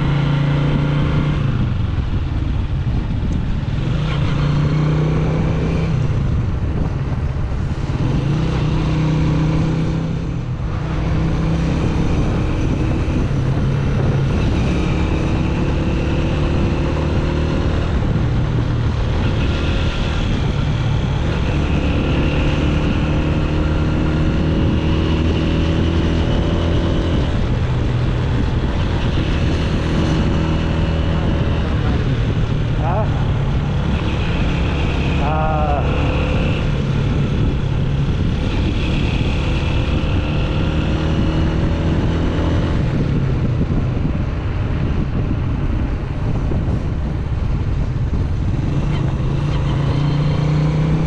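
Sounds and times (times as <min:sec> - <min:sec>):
wind and road noise: 0:00.0 - 0:51.0.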